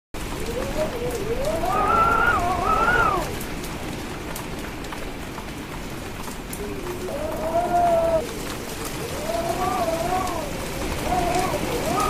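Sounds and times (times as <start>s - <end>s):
howling wind: 0.2s - 12.0s
steady rain: 0.2s - 12.0s.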